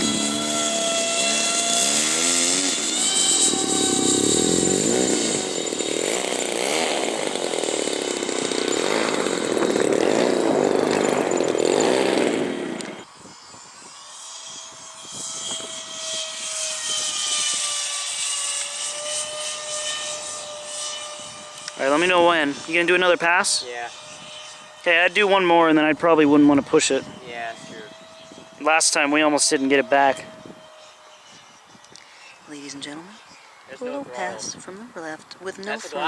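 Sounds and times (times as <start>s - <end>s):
model jet motors whining: 0.0s - 36.0s.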